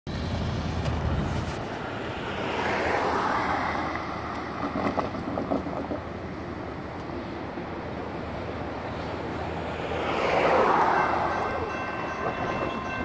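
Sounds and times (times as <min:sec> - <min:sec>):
cars passing: 0:00.1 - 0:13.0.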